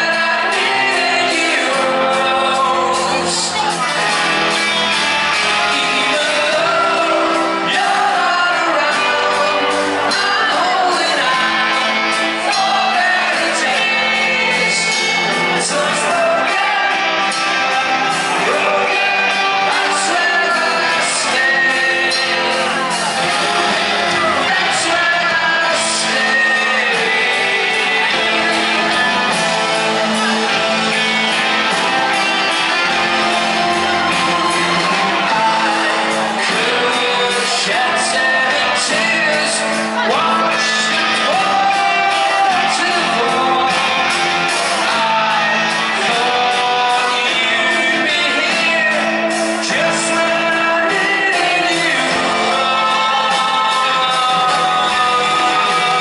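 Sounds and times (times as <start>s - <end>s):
man singing: 0.0s - 56.0s
rock band playing: 0.0s - 56.0s.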